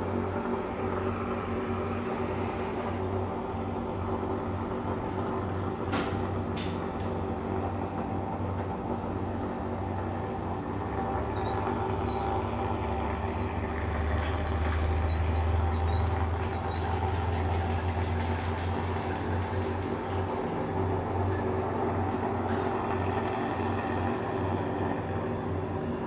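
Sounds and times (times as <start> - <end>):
low mechanical rumble with hum: 0.0 - 26.0.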